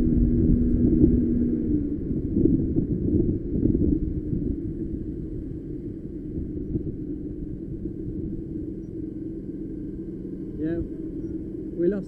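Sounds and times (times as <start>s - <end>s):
go-kart engine drone: 0.0s - 12.0s
road and wind noise: 0.0s - 12.0s.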